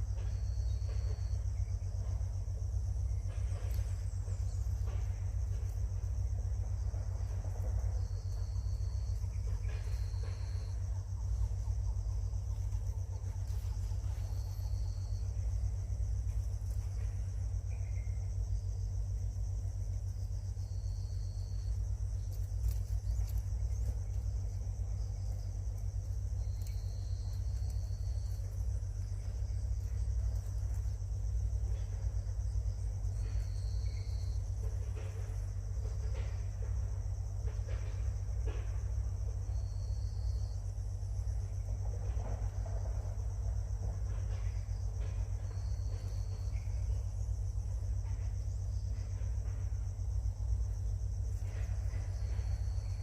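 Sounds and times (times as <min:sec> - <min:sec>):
high insect-like tone: 0:00.0 - 0:53.0
insects trilling: 0:00.0 - 0:53.0
low rumble: 0:00.0 - 0:53.0.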